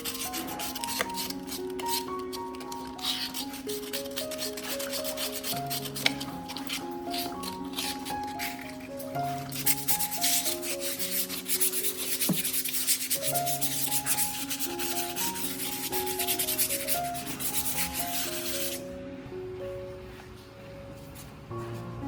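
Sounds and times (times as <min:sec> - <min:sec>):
light background music: 0:00.0 - 0:22.0.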